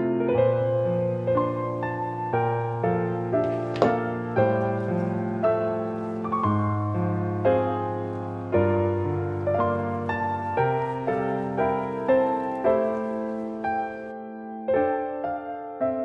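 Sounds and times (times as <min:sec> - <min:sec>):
soft solo piano music: 0:00.0 - 0:16.0.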